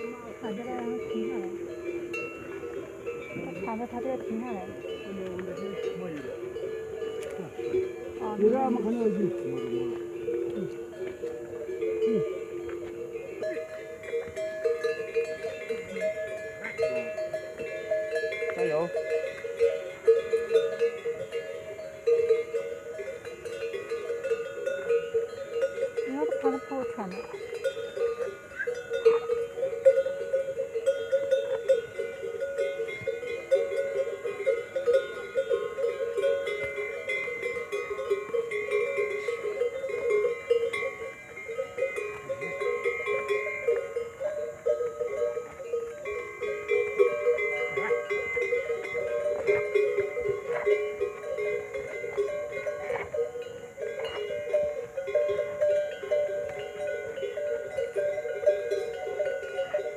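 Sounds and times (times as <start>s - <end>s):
neck bells jangling: 0.0s - 59.9s.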